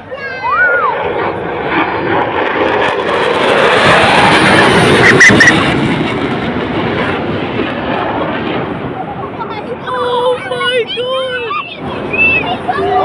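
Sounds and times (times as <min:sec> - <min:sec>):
fighter jet passing overhead: 0:00.0 - 0:13.0.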